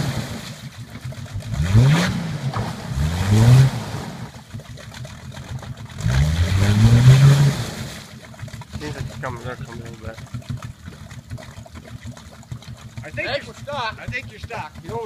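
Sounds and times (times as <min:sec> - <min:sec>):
car engine revving: 0:00.0 - 0:04.6, 0:05.8 - 0:15.0.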